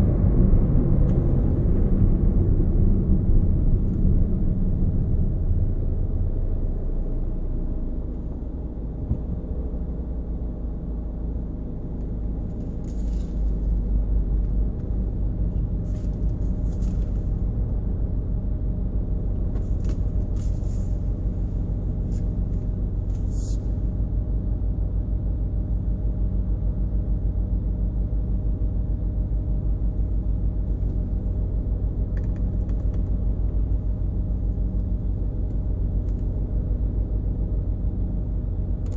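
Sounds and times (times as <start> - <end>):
car road rumble with pulsing: 0.0 - 38.9.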